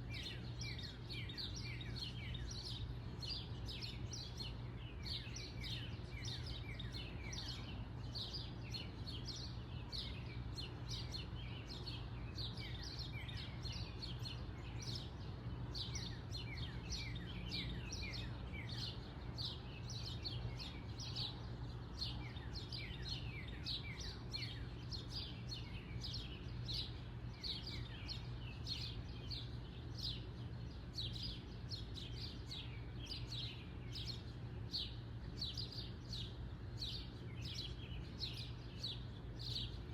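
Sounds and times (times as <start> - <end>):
birds chirping: 0.0 - 39.9
low background hum: 0.0 - 39.9.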